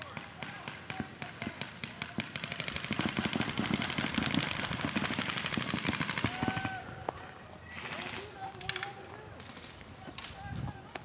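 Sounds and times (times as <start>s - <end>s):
airsoft guns firing: 0.0s - 6.9s, 7.7s - 10.4s.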